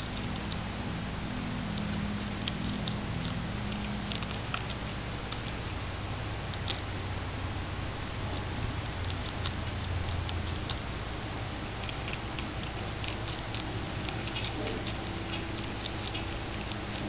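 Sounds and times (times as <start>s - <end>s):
low hum and hiss: 0.0s - 17.0s
rabbit chewing lettuce: 0.0s - 17.0s.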